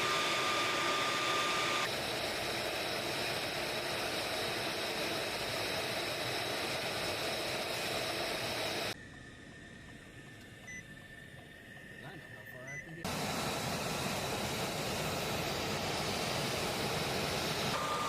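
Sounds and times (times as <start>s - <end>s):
fighter jet engine whine: 0.0s - 18.0s.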